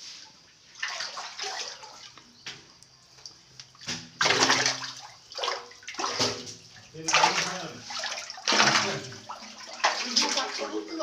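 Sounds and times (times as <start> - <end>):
water splashing in tank: 0.7 - 11.0.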